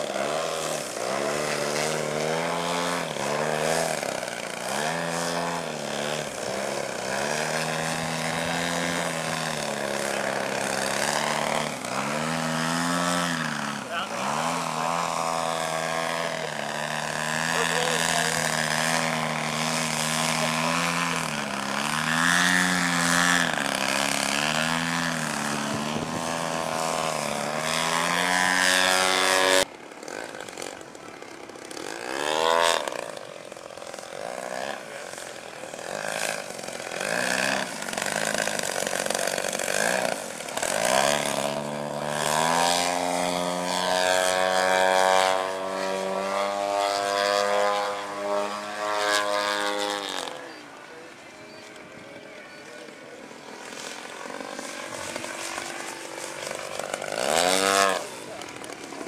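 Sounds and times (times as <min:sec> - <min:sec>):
model airplane engine and propeller: 0:00.0 - 0:59.0.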